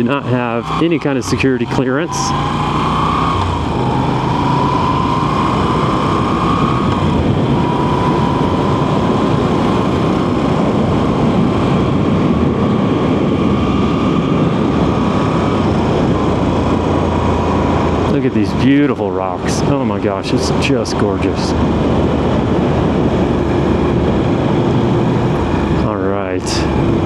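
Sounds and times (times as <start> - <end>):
motorcycle engine riding: 0.0 - 27.0
wind rushing: 2.0 - 27.0.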